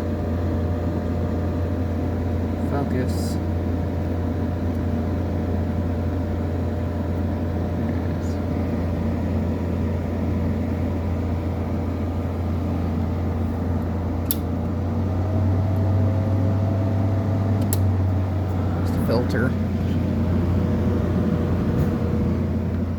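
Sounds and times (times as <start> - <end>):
air conditioner humming: 0.0 - 22.9.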